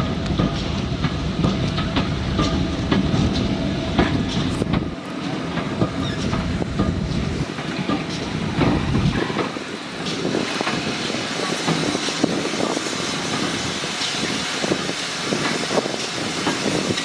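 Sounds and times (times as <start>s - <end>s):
low train rumble: 0.0s - 17.0s
train wheels clacking on rail joints: 0.0s - 17.0s.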